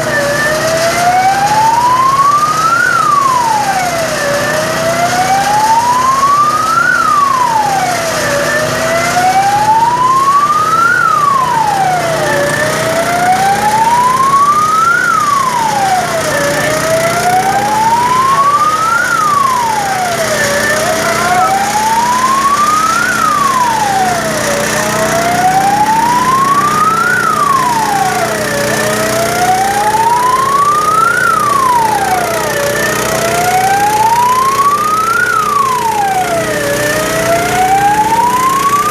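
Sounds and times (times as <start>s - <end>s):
faint higher siren wailing: 0.0s - 38.9s
fire engine siren wailing: 0.0s - 38.9s.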